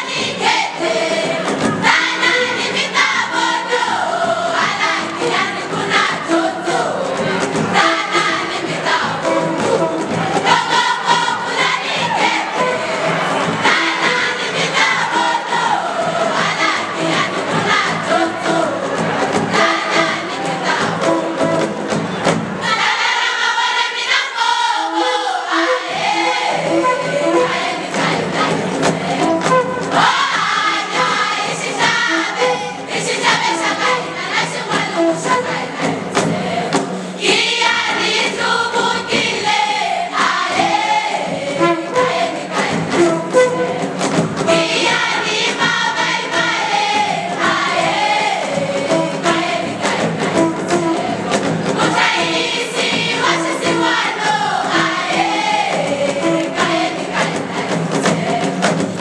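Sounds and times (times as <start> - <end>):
choir singing in harmony: 0.0 - 59.0
drums beating: 0.0 - 59.0.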